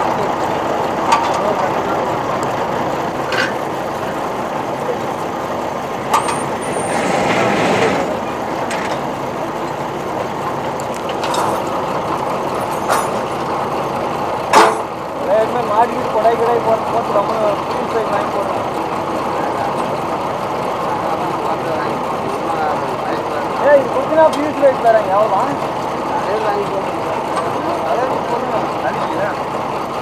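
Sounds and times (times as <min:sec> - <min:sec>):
rig engine running: 0:00.0 - 0:30.0.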